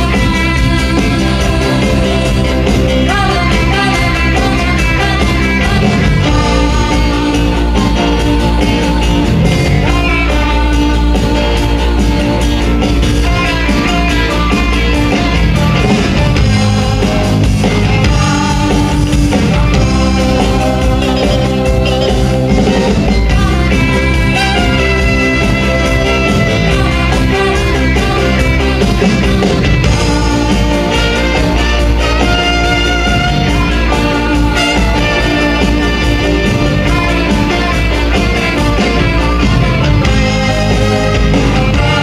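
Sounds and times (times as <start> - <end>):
guitar: 0.0 - 42.0
live band playing: 0.0 - 42.0
steady low bass: 0.0 - 42.0.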